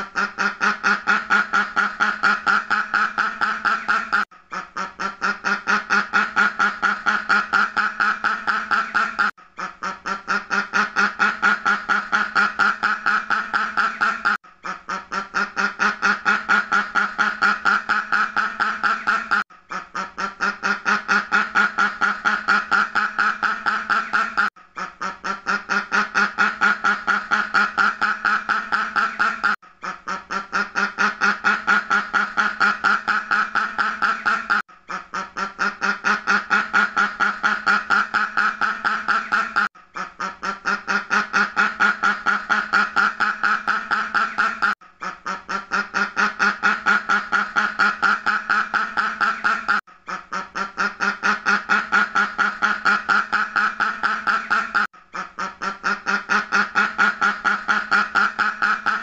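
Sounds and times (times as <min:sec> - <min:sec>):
duck quacking rapidly: 0:00.0 - 0:59.0.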